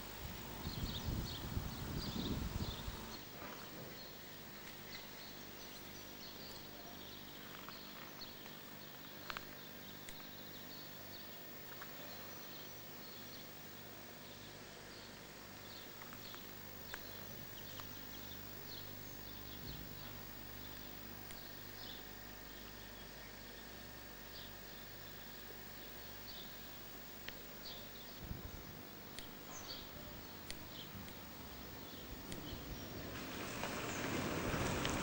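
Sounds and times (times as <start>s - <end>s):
steady hiss and low hum: 0.0s - 35.0s.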